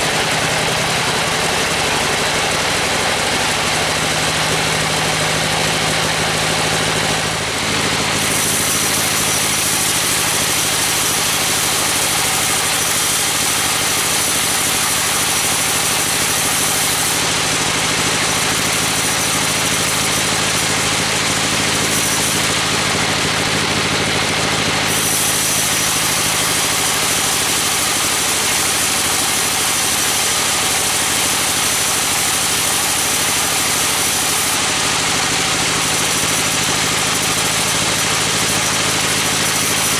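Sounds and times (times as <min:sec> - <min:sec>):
engine-driven wood saw cutting: 0:00.0 - 0:39.9.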